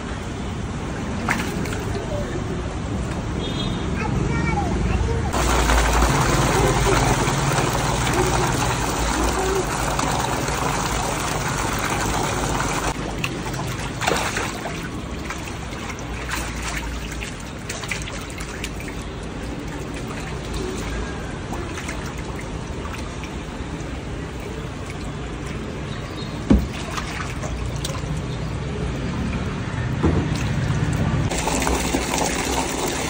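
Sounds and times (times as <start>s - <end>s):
water trickling and churning: 0.6s - 3.4s, 5.3s - 33.0s
short water splashes: 1.0s - 2.3s, 5.3s - 29.6s, 30.2s - 33.0s.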